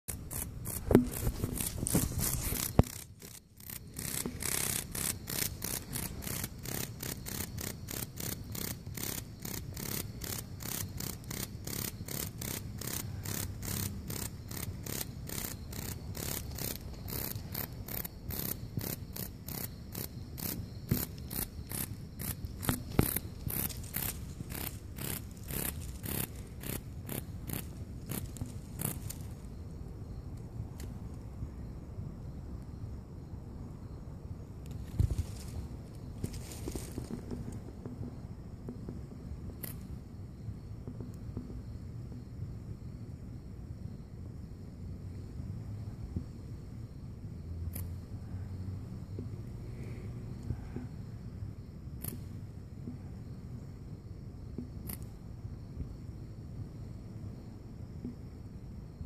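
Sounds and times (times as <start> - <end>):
insect rasping pulses: 0.0 - 59.0.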